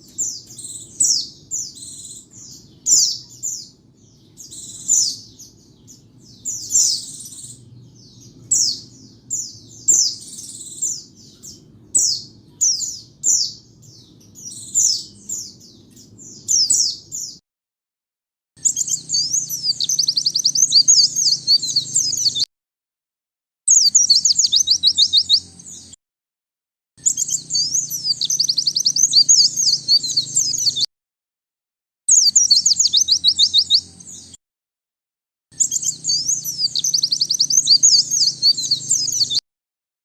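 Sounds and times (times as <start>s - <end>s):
bird twittering: 0.0s - 17.4s, 18.6s - 22.5s, 23.7s - 26.0s, 27.0s - 30.9s, 32.1s - 34.4s, 35.5s - 39.4s.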